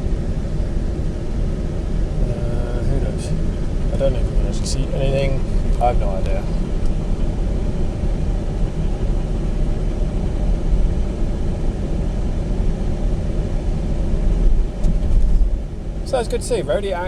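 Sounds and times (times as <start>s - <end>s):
engine and tyre rumble in cabin: 0.0s - 17.0s.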